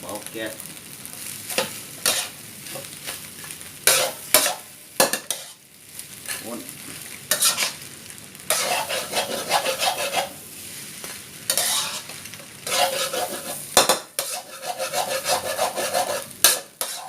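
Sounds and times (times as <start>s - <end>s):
rice sizzling in a hot pan: 0.0s - 17.0s
spatula scraping a pan: 1.5s - 7.9s, 8.5s - 17.0s.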